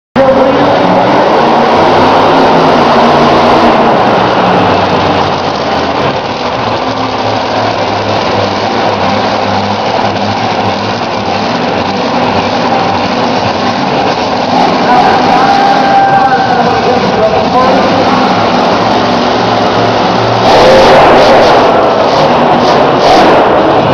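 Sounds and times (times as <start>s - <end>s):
monster truck engine running loud: 0.2s - 23.9s.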